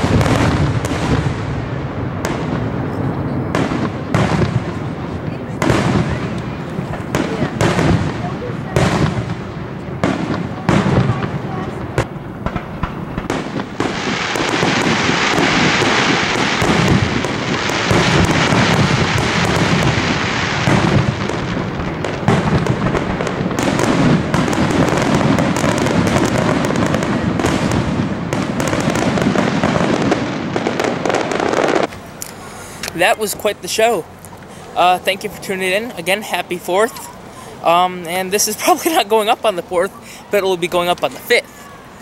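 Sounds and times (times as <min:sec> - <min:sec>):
fireworks booming and crackling: 0:00.0 - 0:42.0.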